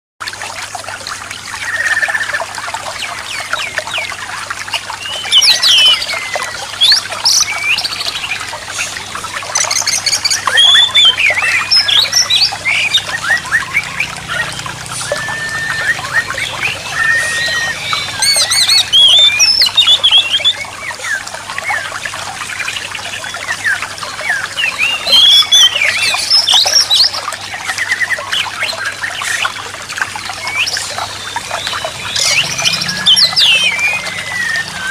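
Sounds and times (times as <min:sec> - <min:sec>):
running water trickling: 0:00.2 - 0:34.9
songbirds singing: 0:01.4 - 0:34.9.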